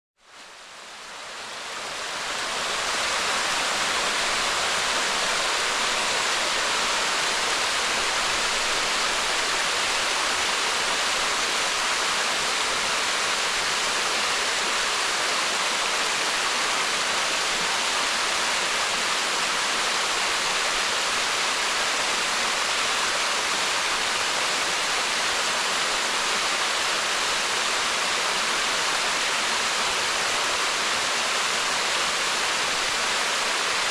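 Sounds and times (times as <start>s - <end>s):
waterfall rushing: 0.4s - 33.9s.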